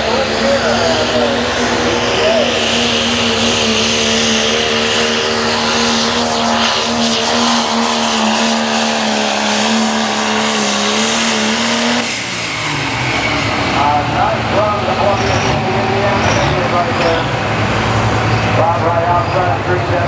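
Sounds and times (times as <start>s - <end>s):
diesel truck engine at high revs: 0.0s - 20.0s.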